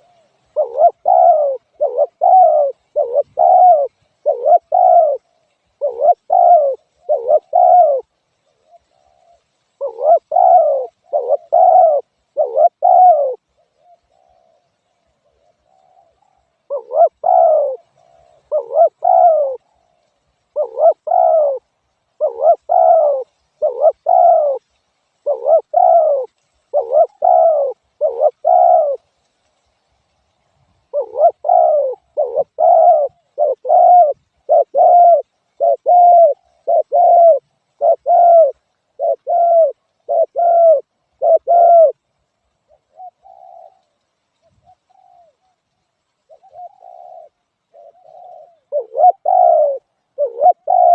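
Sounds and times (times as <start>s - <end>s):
dove cooing: 0.0s - 29.2s, 30.8s - 50.9s.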